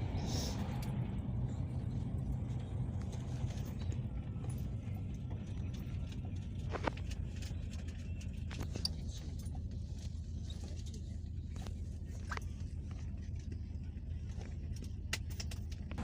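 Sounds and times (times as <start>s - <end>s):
engine and road rumble: 0.0s - 16.0s
body clicks and rattles: 0.7s - 16.0s.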